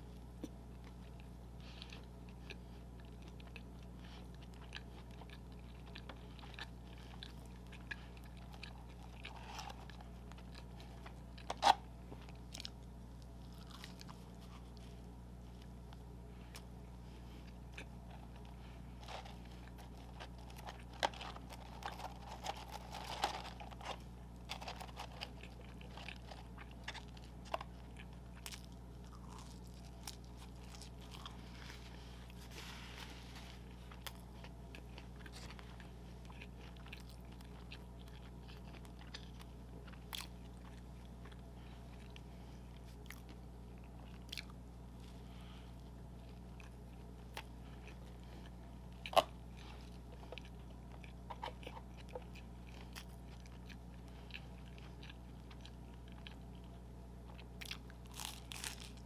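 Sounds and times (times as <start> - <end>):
person chewing and smacking: 0.0 - 59.0
steady low hum: 0.0 - 59.0.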